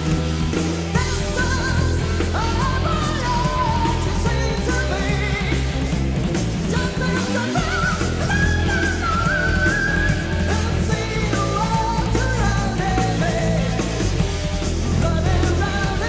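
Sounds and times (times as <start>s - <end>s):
hard rock band playing: 0.0s - 16.0s
wavering lead guitar line: 0.0s - 16.0s.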